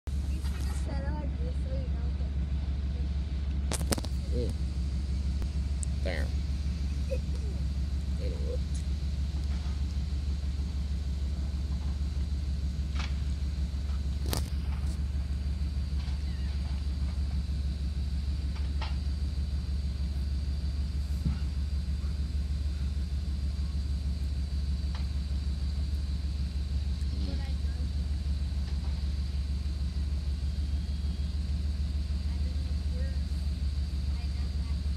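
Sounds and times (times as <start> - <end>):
faint high whine: 0.1 - 34.9
machine engine drone: 0.1 - 34.9.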